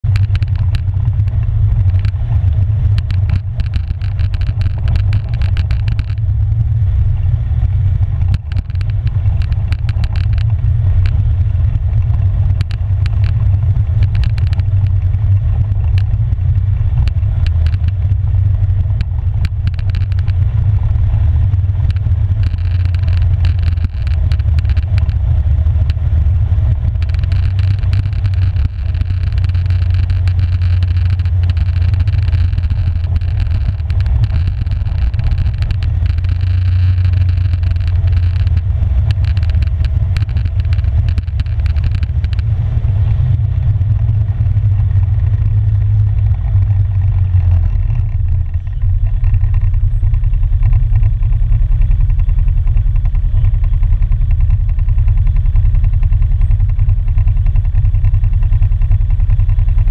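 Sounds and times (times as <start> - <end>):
atv engine running: 0.0 - 59.9
tyres clicking and rattling on stones: 0.1 - 6.4, 8.1 - 11.2, 11.9 - 53.8.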